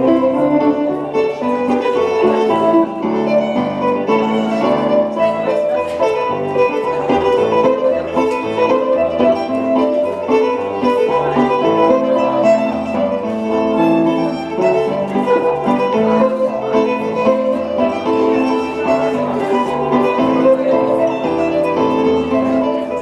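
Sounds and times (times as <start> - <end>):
fiddle playing dance tune: 0.0 - 23.0
plucked strings: 0.0 - 23.0.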